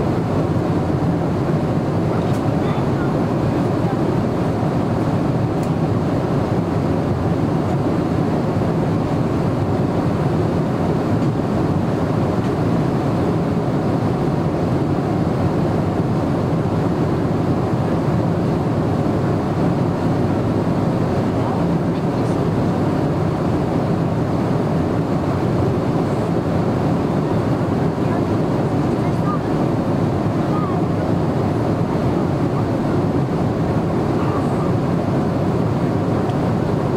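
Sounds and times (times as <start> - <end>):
airplane cabin noise: 0.0 - 36.9.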